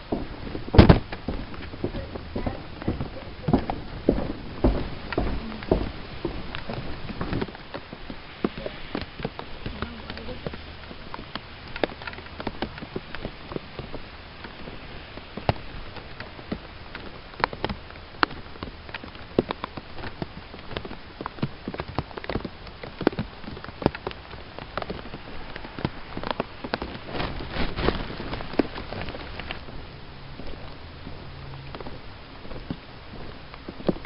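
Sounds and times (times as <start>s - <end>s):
sharp taps of raindrops: 0.0s - 34.0s
steady rain: 0.0s - 34.0s.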